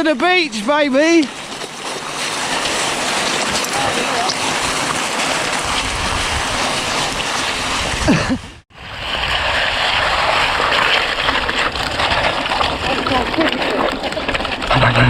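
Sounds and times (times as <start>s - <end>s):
bike tyres rolling: 0.0s - 15.0s
wind over microphone: 1.2s - 15.0s.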